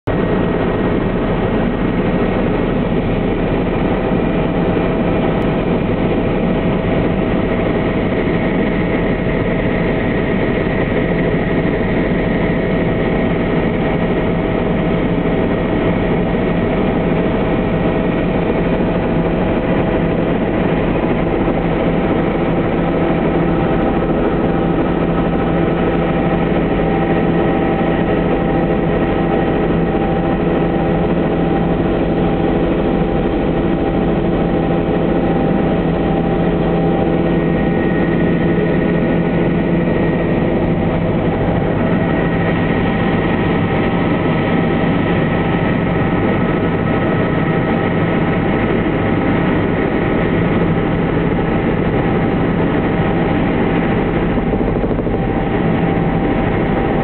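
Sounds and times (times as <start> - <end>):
helicopter engine and rotors drone: 0.0 - 57.0.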